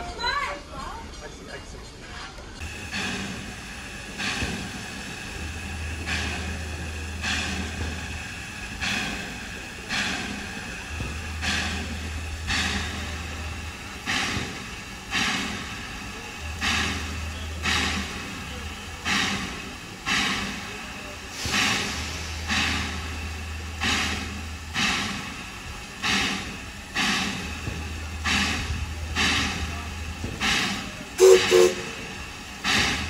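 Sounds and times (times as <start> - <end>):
steam locomotive chuffing: 2.6 - 33.0.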